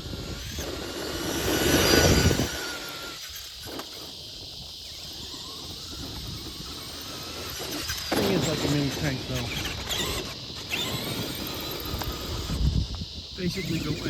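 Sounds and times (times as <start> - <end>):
rc truck motor whining: 0.0 - 14.0
tyres churning sand: 0.0 - 14.0.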